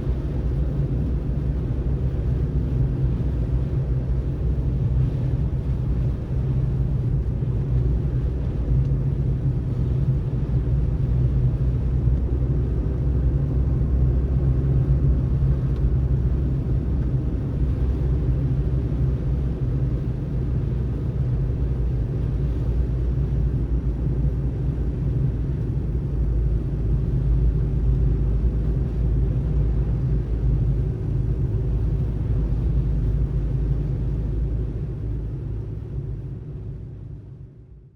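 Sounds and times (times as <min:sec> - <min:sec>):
car driving: 0:00.0 - 0:36.9.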